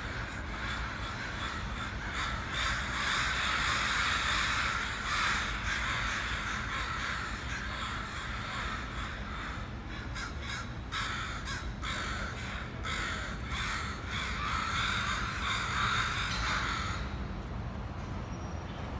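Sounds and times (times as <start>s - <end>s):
crows cawing: 0.0s - 17.2s.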